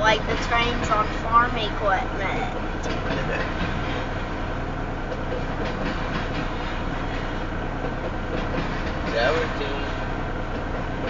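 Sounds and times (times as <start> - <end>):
steel wheels rumbling on rail: 0.0 - 11.0.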